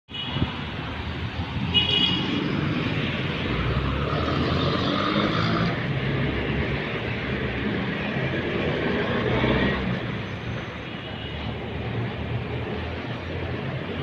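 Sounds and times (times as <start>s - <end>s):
vehicle engines rumbling: 0.2s - 14.0s.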